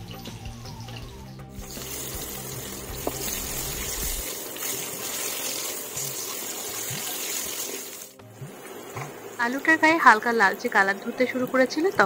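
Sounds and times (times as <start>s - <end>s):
potatoes sizzling in oil: 1.5s - 12.0s.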